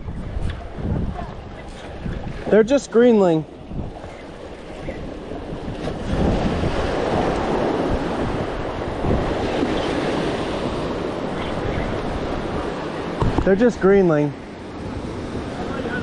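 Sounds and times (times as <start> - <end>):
wind on the microphone: 0.0 - 2.7, 3.4 - 14.0
ocean waves washing over rocks: 0.3 - 16.0.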